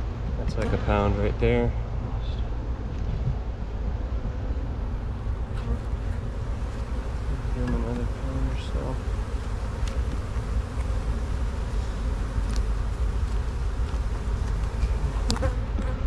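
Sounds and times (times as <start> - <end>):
constant low rumble: 0.0 - 16.0
bees buzzing: 2.4 - 16.0.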